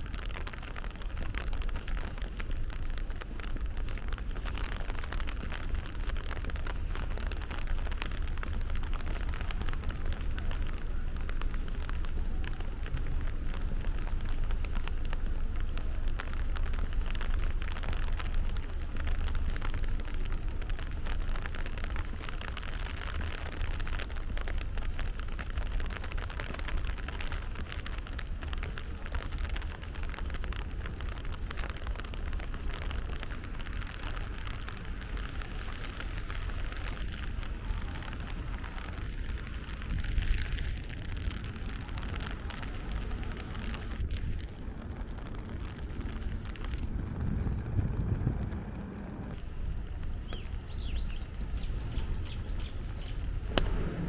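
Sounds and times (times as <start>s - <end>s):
heavy rain falling: 0.0s - 54.0s
low rumble: 0.0s - 54.0s.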